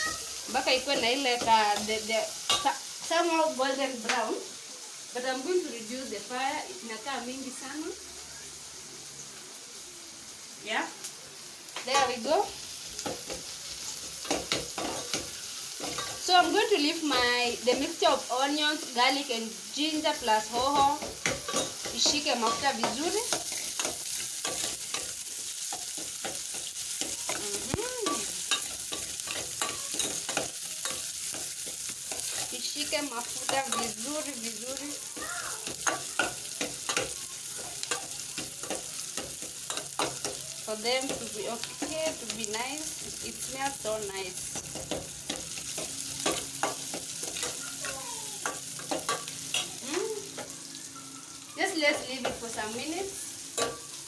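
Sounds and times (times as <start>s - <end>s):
vegetables sizzling in oil: 0.0s - 54.0s.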